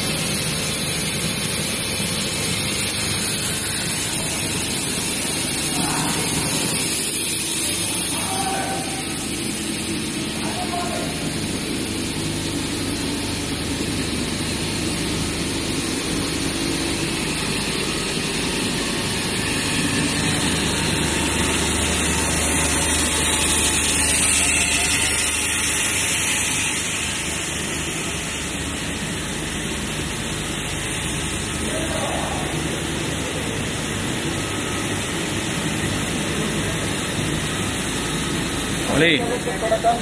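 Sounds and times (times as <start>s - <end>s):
machinery hum with high hiss: 0.0s - 40.0s.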